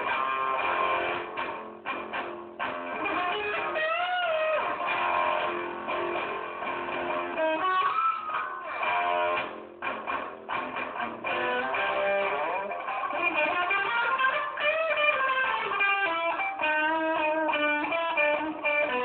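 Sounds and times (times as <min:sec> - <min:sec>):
guitar playing melody: 0:00.0 - 0:19.0.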